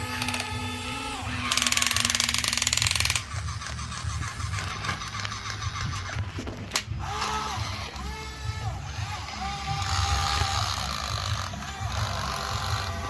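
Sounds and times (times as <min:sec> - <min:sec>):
plastic gears clicking: 0:00.0 - 0:08.4, 0:09.1 - 0:13.0
rapid ratcheting: 0:00.0 - 0:13.0
toy gear motors whirring: 0:00.0 - 0:13.0.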